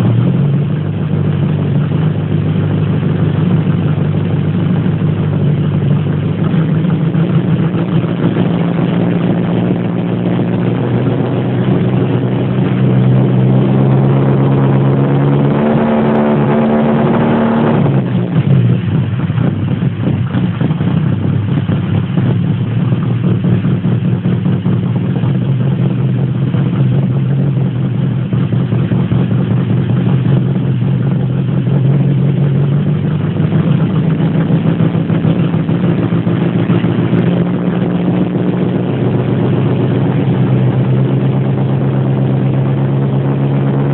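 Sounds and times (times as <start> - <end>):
car engine revving: 0.0 - 43.9.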